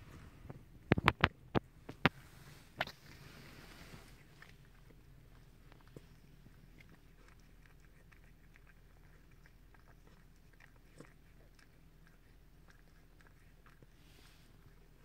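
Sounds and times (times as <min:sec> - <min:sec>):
soft rustle: 0:00.0 - 0:15.0.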